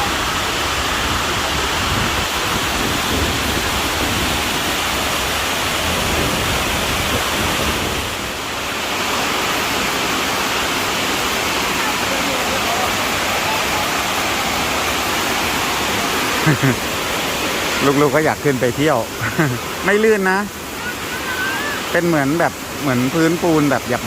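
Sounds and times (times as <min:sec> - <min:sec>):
waterfall pouring over rock: 0:00.0 - 0:24.0.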